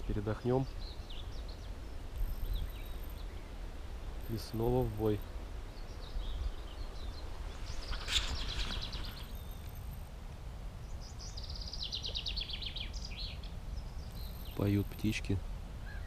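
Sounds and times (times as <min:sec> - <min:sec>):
songbird trilling: 0:00.0 - 0:03.6, 0:04.2 - 0:10.0, 0:10.8 - 0:16.0.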